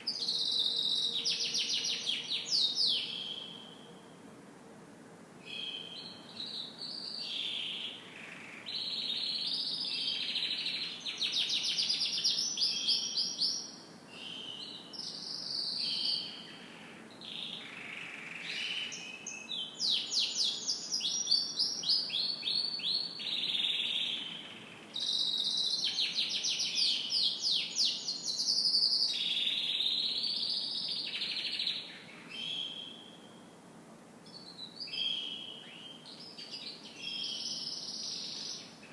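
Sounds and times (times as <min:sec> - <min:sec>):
canary singing: 0:00.0 - 0:04.1, 0:05.5 - 0:33.5, 0:34.3 - 0:38.9.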